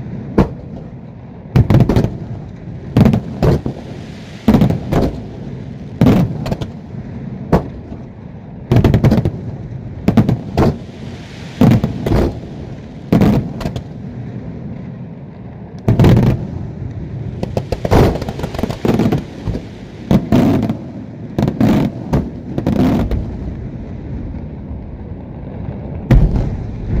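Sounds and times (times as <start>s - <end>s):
rumble of small firework charges: 0.0s - 27.0s
loud firework bangs: 0.2s - 8.1s, 8.7s - 14.0s, 15.8s - 23.4s, 26.0s - 27.0s.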